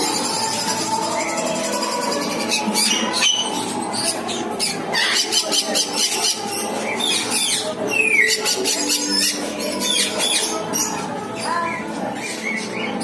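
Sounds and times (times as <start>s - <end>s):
birds chirping and squeaking: 0.0s - 13.0s.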